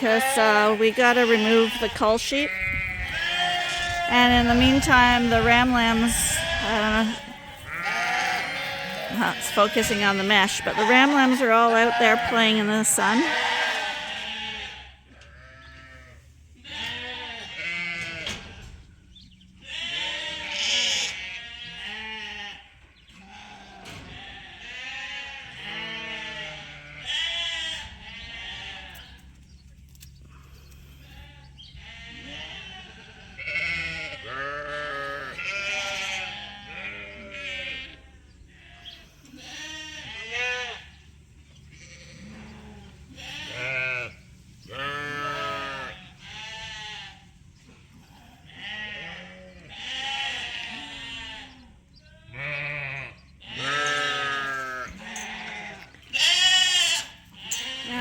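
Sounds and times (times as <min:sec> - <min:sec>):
sheep bleating: 0:00.0 - 0:18.7, 0:19.6 - 0:29.2, 0:30.9 - 0:41.0, 0:41.7 - 0:47.4, 0:48.0 - 0:58.0.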